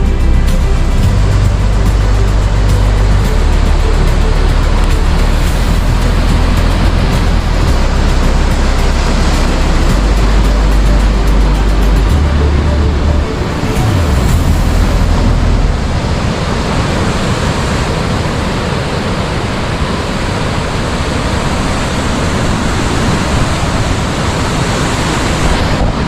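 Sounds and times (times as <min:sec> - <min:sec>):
sea surf: 0:00.0 - 0:26.0
wind: 0:00.0 - 0:26.0
wind rumbling on microphone: 0:00.0 - 0:26.0.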